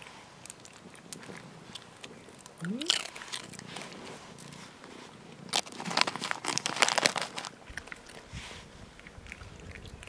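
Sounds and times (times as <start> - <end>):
animals crunching food: 0.0 - 10.0.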